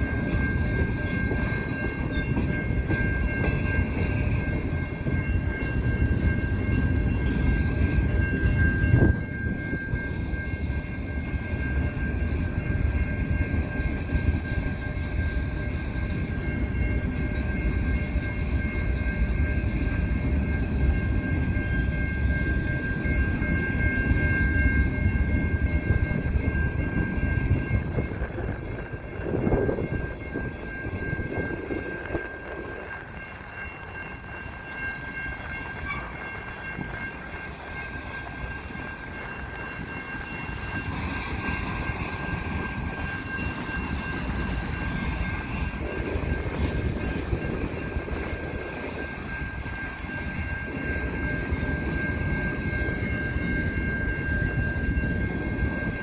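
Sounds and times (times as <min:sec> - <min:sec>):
freight train wheels rumbling: 0:00.0 - 0:56.0
steady high tones: 0:00.0 - 0:56.0.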